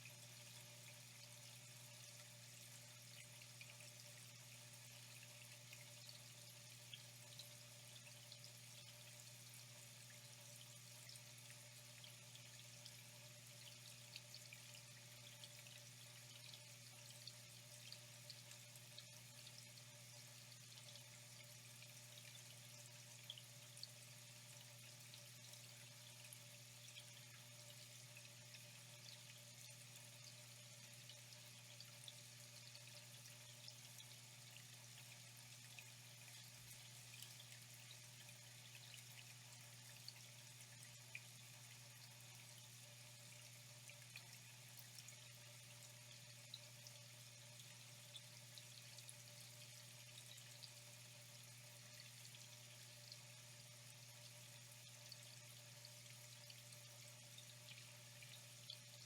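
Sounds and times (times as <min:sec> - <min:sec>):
water drips and splashes: 0:00.0 - 0:59.0.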